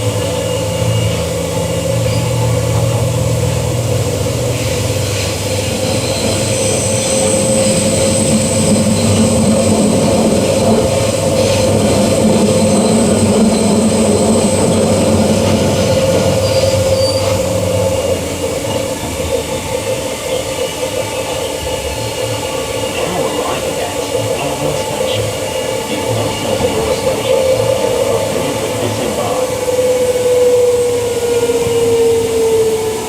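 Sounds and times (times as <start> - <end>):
electric train rumble: 0.0 - 33.0.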